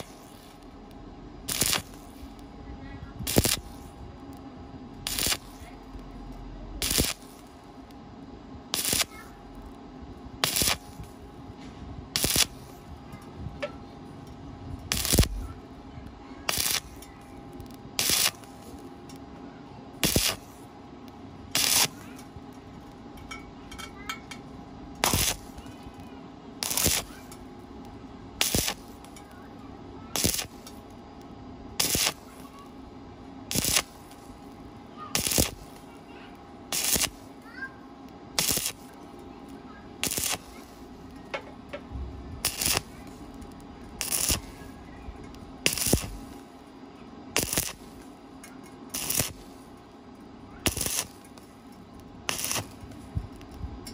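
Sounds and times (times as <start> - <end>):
steady hum: 0.0 - 53.9
welding arc crackling sizzle: 0.0 - 53.9.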